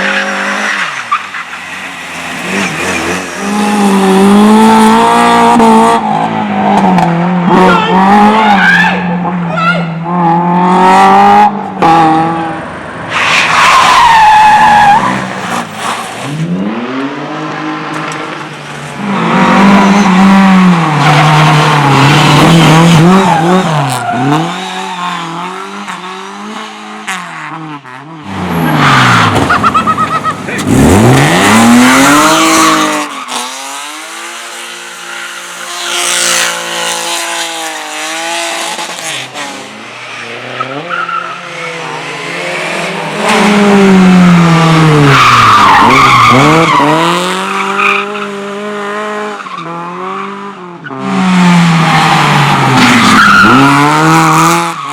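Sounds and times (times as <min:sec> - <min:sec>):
race car engines revving: 0:00.0 - 0:54.9
tyres skidding and squealing: 0:00.0 - 0:54.9.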